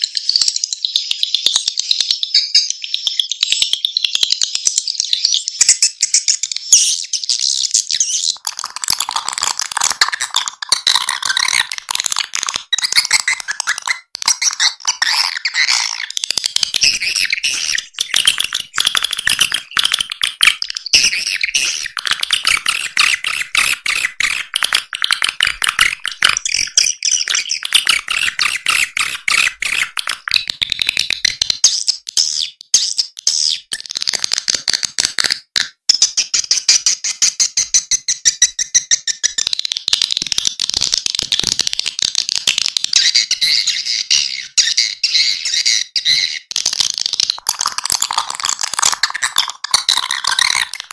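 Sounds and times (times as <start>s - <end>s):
swiftlets twittering and chirping: 0.0s - 34.3s, 35.9s - 50.9s.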